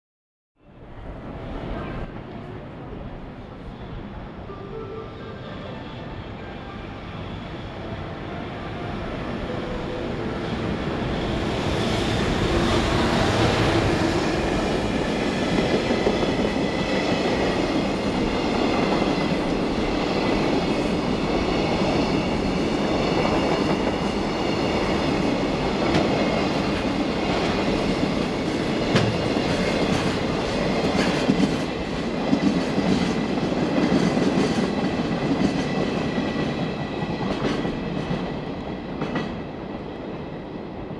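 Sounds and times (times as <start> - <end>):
train rolling rumble: 0.8 - 40.9.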